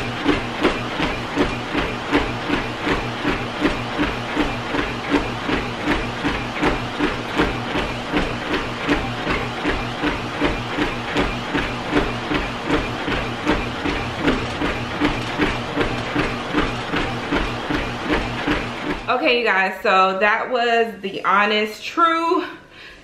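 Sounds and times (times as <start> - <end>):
footfall thumps on treadmill: 0.0 - 19.6
treadmill motor and belt hum: 0.0 - 23.0.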